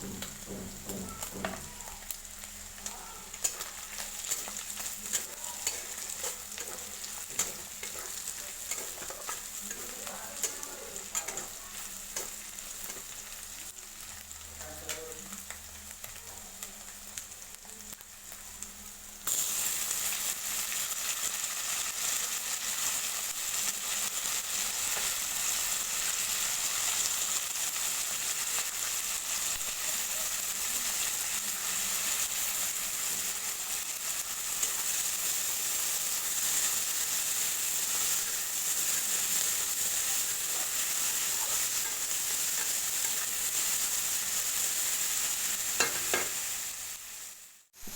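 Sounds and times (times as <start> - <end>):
food sizzling in a pan: 0.0 - 47.9.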